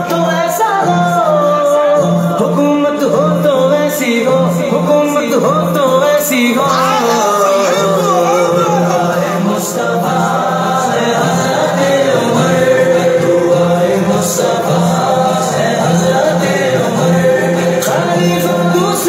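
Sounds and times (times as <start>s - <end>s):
group singing devotional song: 3.0s - 19.0s.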